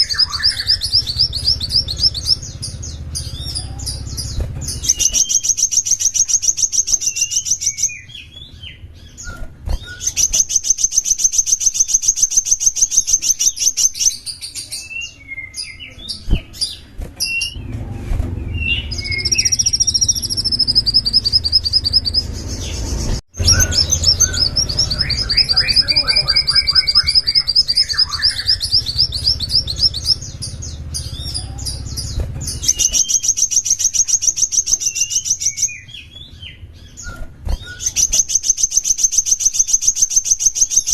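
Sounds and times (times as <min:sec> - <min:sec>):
bird singing fast high trills: 0:00.0 - 0:17.6, 0:18.4 - 0:40.9
bird chirps: 0:00.0 - 0:40.9.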